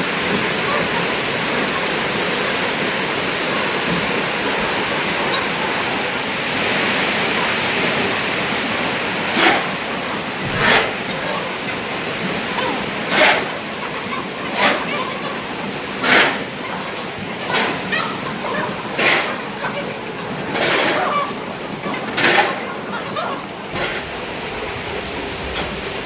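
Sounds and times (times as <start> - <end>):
flock of chicks calling: 0.0 - 25.9.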